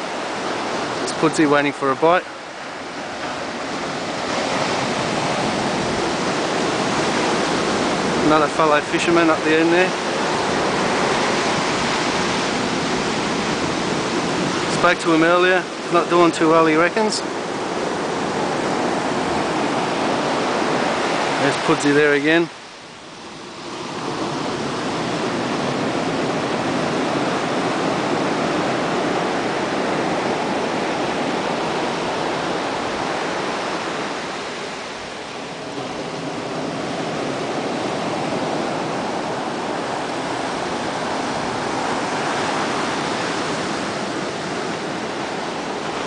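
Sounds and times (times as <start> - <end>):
ocean surf breaking on beach: 0.0 - 46.0.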